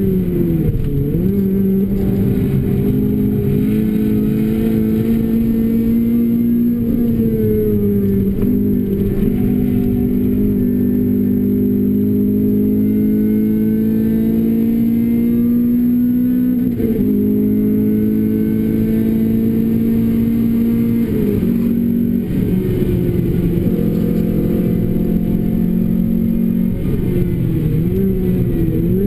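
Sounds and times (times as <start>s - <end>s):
car engine and exhaust under load: 0.0s - 29.0s.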